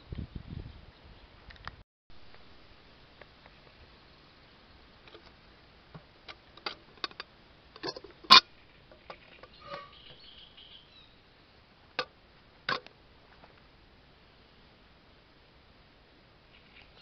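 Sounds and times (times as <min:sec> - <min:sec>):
faint hiss: 0:02.1 - 0:17.0.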